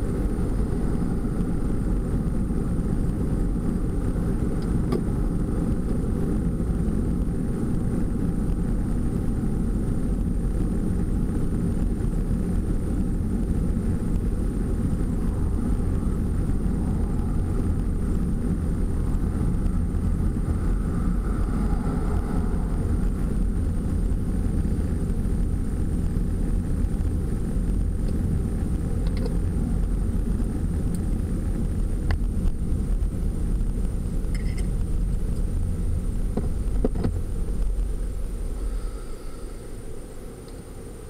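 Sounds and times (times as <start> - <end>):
van road and engine rumble: 0.0 - 41.0.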